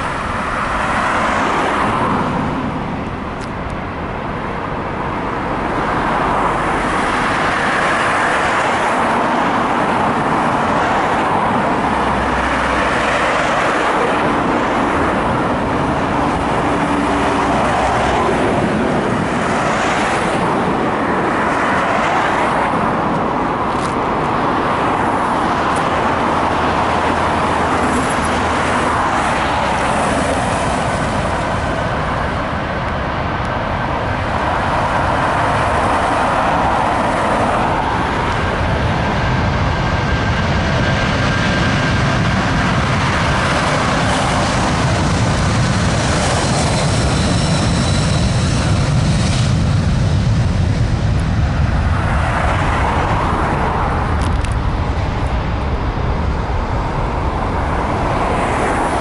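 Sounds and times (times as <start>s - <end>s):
cars driving past: 0.0s - 59.0s.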